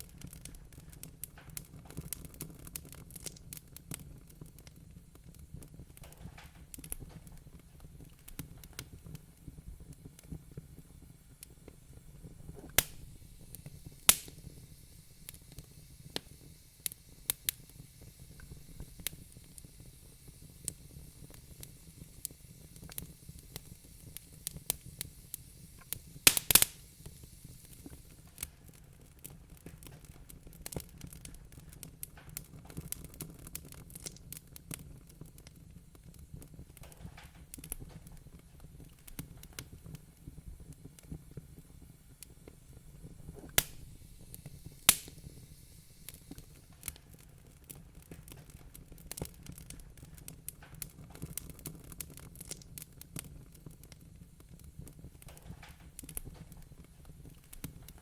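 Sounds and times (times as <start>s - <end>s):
fire low rumble: 0.0s - 58.0s
wood fire crackling and popping: 0.0s - 58.0s.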